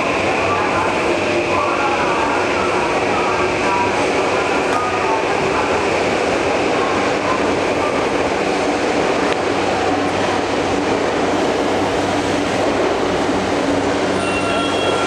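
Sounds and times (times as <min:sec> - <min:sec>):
subway train rumble and hiss: 0:00.0 - 0:15.0.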